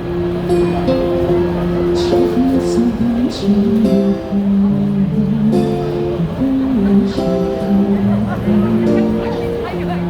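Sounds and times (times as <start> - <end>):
melody of held gliding notes: 0.0 - 10.0
strummed acoustic guitar: 0.0 - 10.0.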